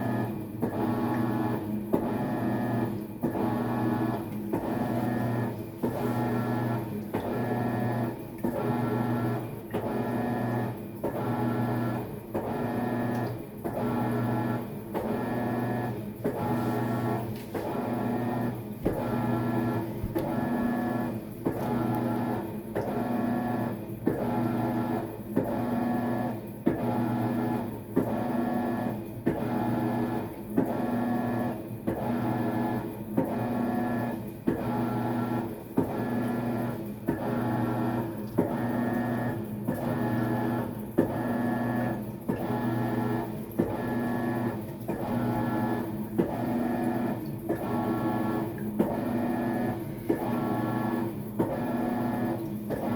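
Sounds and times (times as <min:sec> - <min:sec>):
washing machine motor humming: 0:00.0 - 0:52.9
washing machine reversing click: 0:00.0 - 0:52.9.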